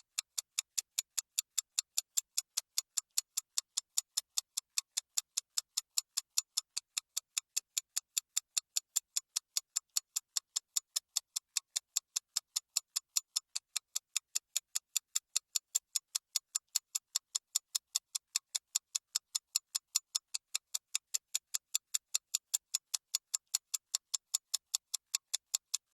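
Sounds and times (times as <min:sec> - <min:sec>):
clock ticking: 0:00.0 - 0:26.0.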